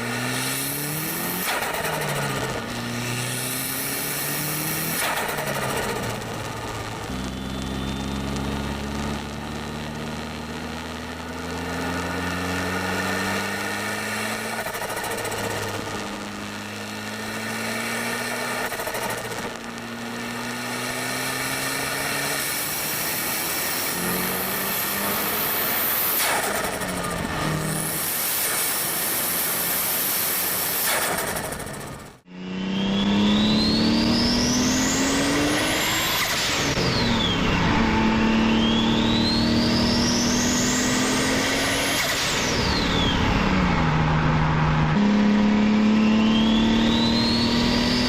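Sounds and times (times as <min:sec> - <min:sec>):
turbocharged car engine accelerating: 0:00.0 - 0:48.0.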